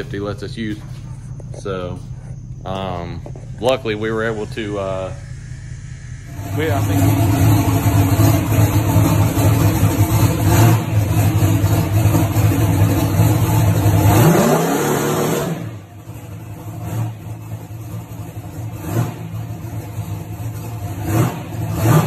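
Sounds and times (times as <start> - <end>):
car engine running and revving: 0.0 - 22.0.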